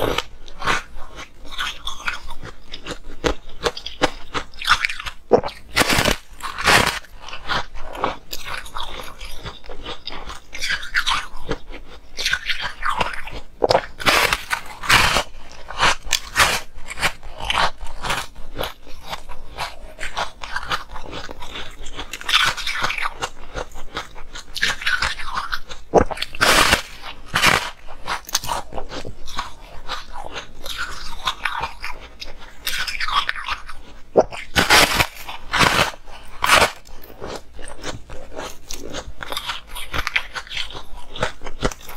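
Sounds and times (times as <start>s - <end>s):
biting ice crunch: 0.0s - 11.6s, 12.2s - 32.0s, 32.6s - 41.9s
chewing ice: 0.0s - 41.9s.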